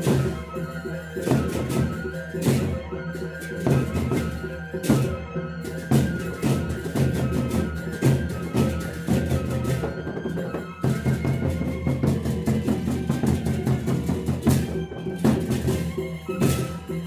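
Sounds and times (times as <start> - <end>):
flute melody: 0.0 - 17.0
large drums beating: 0.0 - 17.0.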